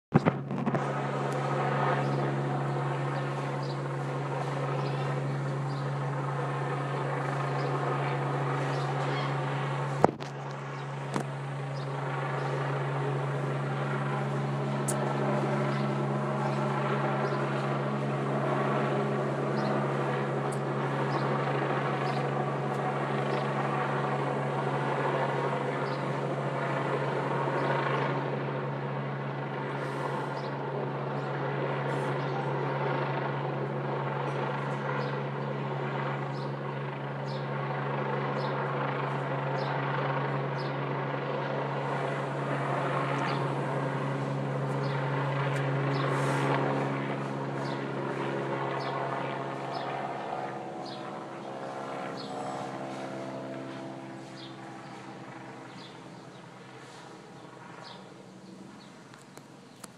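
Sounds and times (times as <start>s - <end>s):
helicopter hovering: 0.1s - 59.9s.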